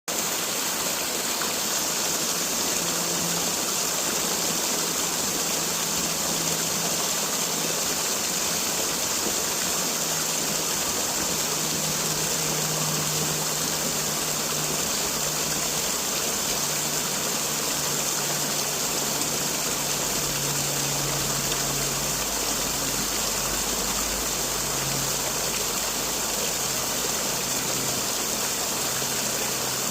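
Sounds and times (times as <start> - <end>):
waterfall splashing and rushing: 0.1 - 29.9.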